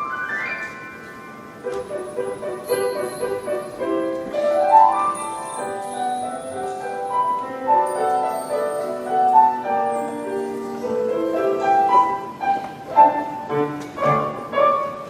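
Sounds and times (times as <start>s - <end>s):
instrumental melody of held notes: 0.0s - 15.0s
piano accompaniment: 0.0s - 15.0s.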